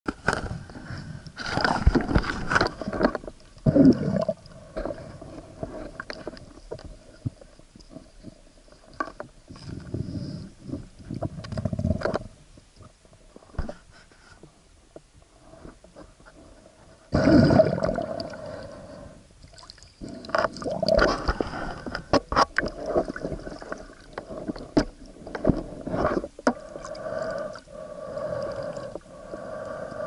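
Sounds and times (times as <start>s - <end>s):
water sloshing and gurgling: 0.2s - 13.9s, 15.6s - 30.0s.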